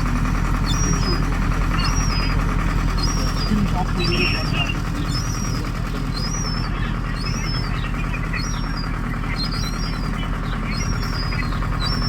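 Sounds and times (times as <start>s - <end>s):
steady low rumble: 0.0s - 12.0s
young gulls begging calls: 0.0s - 12.0s.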